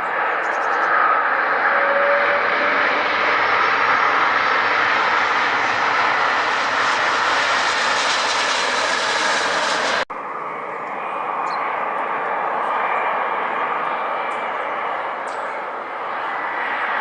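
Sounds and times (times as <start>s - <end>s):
airplane engines rushing: 0.0s - 17.0s
quieter aircraft noise: 0.0s - 17.0s.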